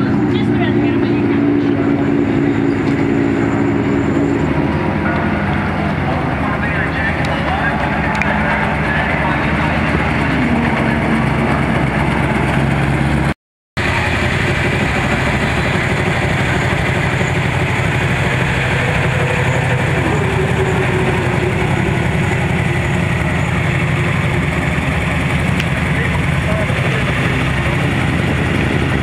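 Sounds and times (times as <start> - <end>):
race car engine idling: 0.0 - 29.0.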